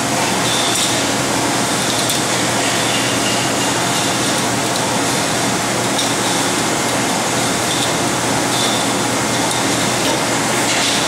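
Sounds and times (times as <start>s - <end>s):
factory machinery noise: 0.0s - 11.0s.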